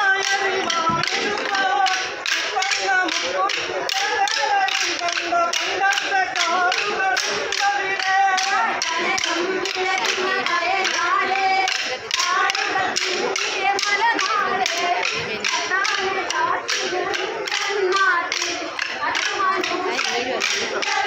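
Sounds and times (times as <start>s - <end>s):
sticks clacking together: 0.0s - 21.0s
voices singing: 0.0s - 21.0s.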